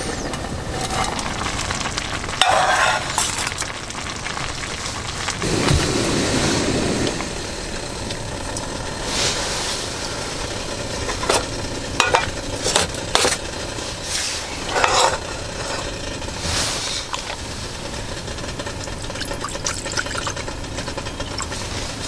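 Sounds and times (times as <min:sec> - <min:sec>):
steady sizzling hiss: 0:00.0 - 0:22.0.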